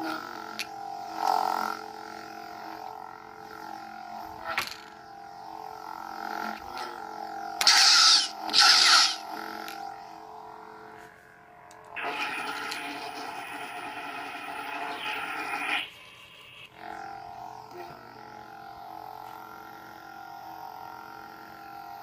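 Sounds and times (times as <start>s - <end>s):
lightsaber electric hum: 0.0s - 22.0s.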